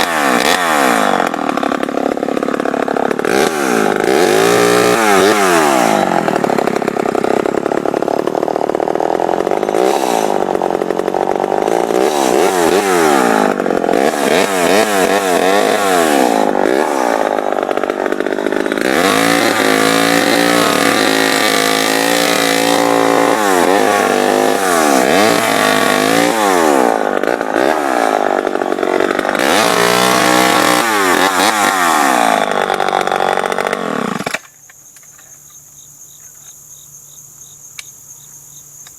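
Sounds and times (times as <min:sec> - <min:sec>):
chainsaw revving: 0:00.0 - 0:34.5.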